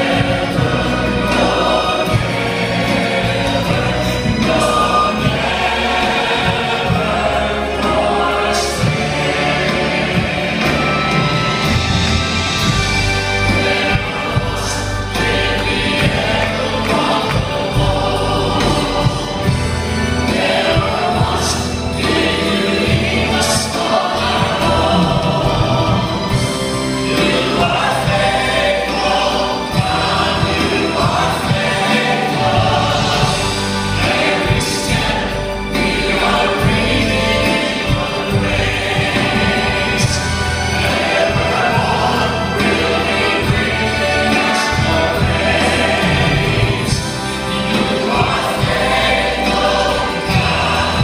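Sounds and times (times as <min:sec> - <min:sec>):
choir and congregation singing: 0:00.0 - 0:51.0
low instrumental accompaniment: 0:00.0 - 0:51.0.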